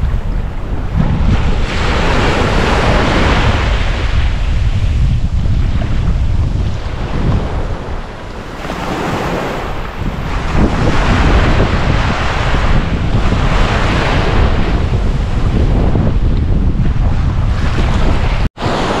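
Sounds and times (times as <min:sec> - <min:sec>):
ocean waves breaking: 0:00.0 - 0:19.0
wind rumbling on microphone: 0:00.0 - 0:19.0.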